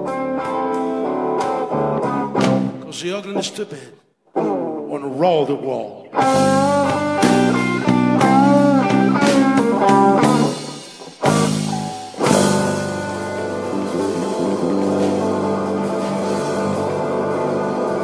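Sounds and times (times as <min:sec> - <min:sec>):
electric guitar lick with bends: 0:00.0 - 0:02.8, 0:04.3 - 0:04.9, 0:06.1 - 0:18.0
slow blues band playing: 0:00.0 - 0:18.0.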